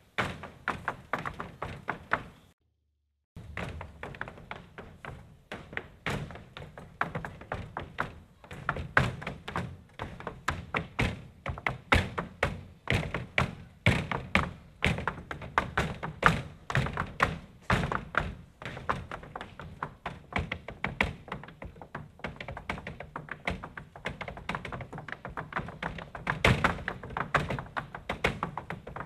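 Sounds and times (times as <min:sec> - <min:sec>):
boots stamping on stage floor: 0:00.1 - 0:02.5, 0:03.4 - 0:29.0.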